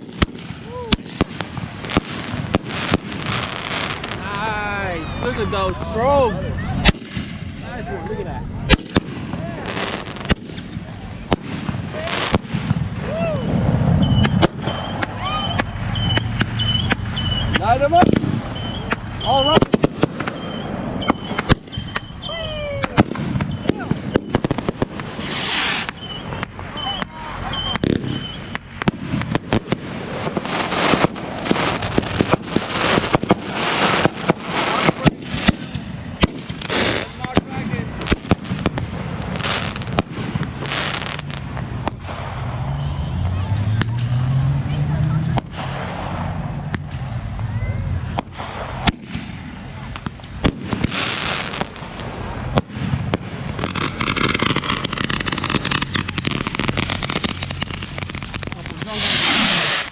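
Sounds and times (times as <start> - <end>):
fireworks hissing crackle: 0.0 - 44.3, 45.0 - 59.9
fireworks bangs: 0.0 - 59.9.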